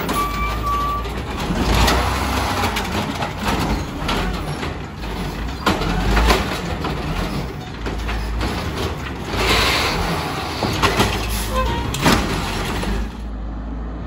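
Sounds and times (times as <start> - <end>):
metal knocks and clanks: 0.0 - 13.3
truck engine rumble: 0.0 - 14.0.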